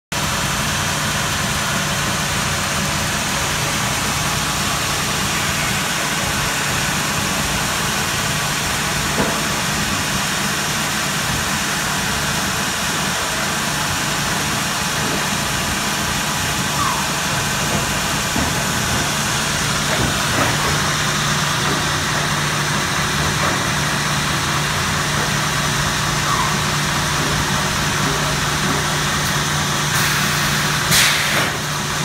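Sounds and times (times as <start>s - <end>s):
sawmill machinery humming: 0.2s - 32.0s.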